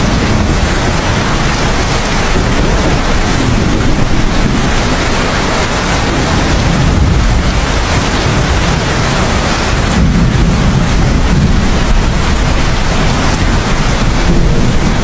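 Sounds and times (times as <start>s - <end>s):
deep rumble: 0.0s - 15.0s
heavy rain: 0.0s - 15.0s.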